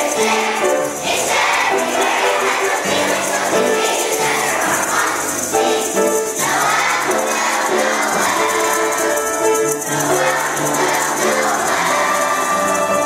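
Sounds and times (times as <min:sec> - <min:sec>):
children's choir singing: 0:00.0 - 0:13.0
shaker rattling: 0:00.0 - 0:13.0.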